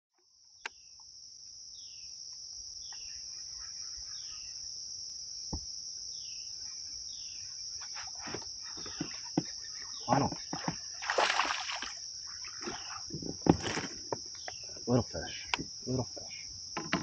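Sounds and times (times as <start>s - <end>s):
high-pitched insect chorus: 0.2s - 17.0s.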